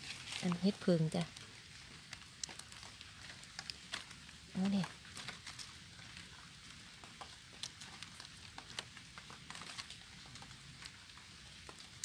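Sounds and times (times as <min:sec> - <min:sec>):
drops pattering on leaves: 0:00.0 - 0:12.0
light rain falling: 0:00.0 - 0:12.0.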